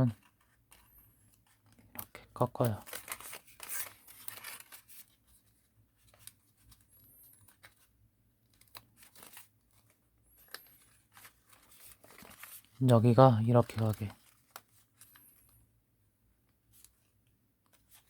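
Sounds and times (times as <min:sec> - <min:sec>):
paper crinkling while folded: 0:00.0 - 0:18.0.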